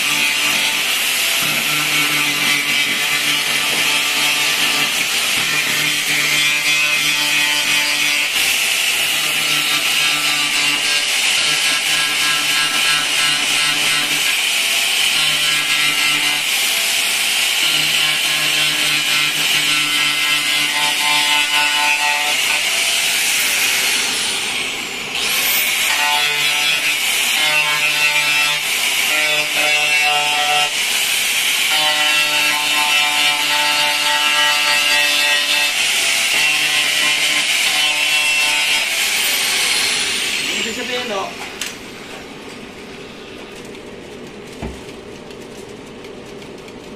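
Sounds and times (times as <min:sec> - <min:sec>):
angle grinder grinding sheet metal: 0:00.0 - 0:41.4.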